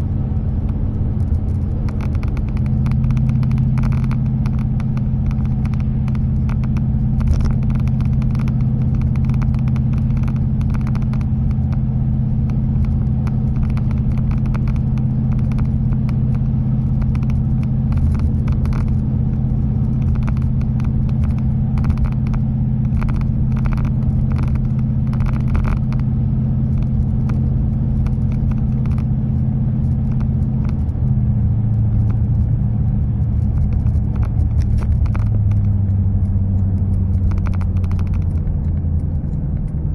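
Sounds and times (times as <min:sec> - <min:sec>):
car exhaust droning: 0:00.0 - 0:39.9
road noise: 0:00.0 - 0:39.9.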